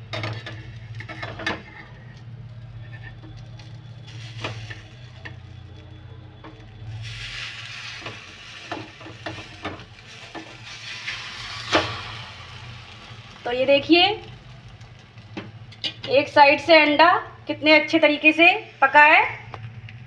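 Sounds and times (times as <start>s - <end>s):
omelette sizzling in oil: 0.0s - 18.3s.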